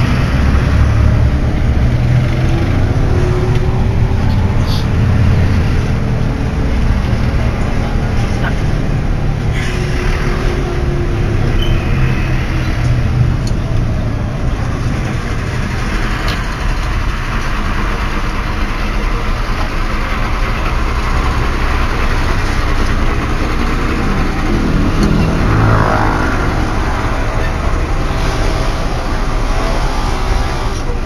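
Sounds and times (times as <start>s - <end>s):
bus diesel engine running: 0.0s - 31.0s
road noise: 0.0s - 31.0s.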